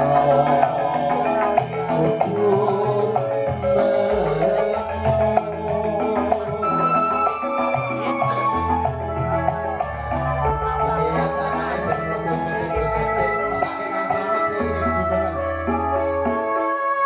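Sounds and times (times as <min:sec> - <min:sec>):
struck metallophones melody: 0:00.0 - 0:17.0.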